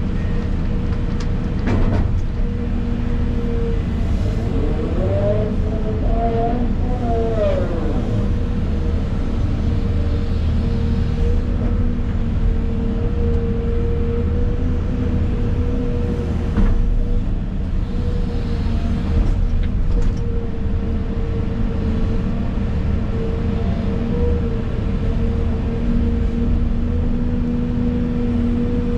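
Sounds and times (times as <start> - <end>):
excavator engine rumbling: 0.0 - 28.9.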